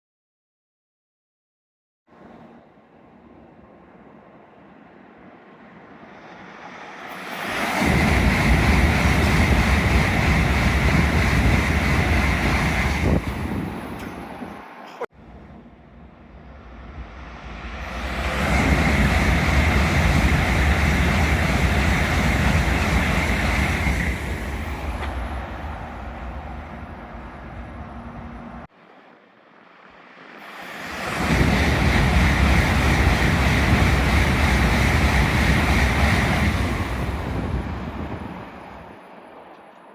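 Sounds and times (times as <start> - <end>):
high-speed train passing: 2.1 - 39.9.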